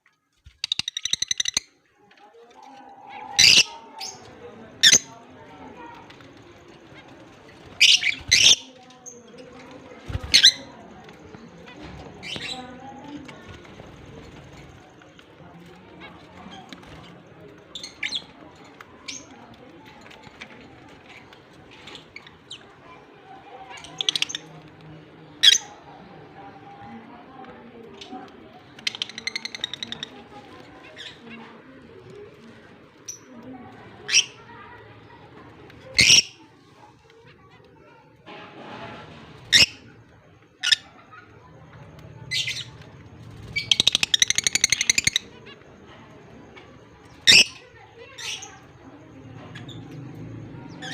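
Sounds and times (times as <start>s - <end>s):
lovebirds chattering: 0.6s - 1.8s, 2.6s - 24.7s, 27.8s - 36.4s, 39.5s - 50.9s.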